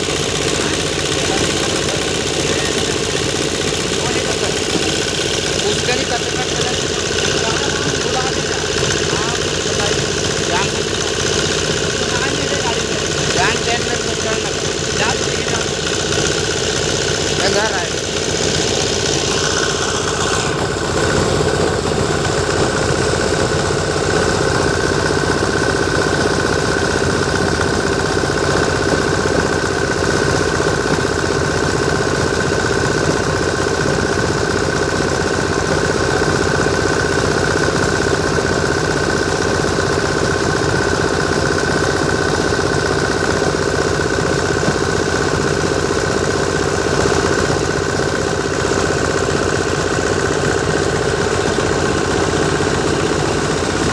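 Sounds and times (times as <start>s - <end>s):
diesel tractor engine running: 0.0s - 53.9s.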